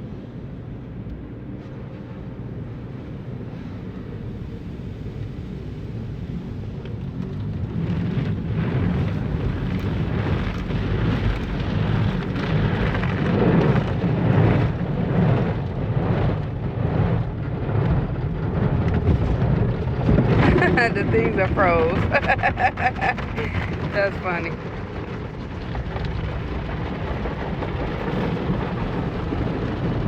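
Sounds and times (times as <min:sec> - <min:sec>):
car wash machinery drumming: 0:01.5 - 0:29.9
water spray rushing on car: 0:01.5 - 0:30.0.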